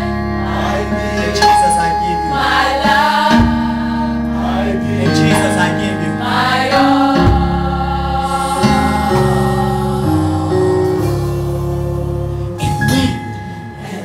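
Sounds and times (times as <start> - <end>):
gospel choir singing: 0.0 - 14.0
held low notes and chords: 0.0 - 14.0.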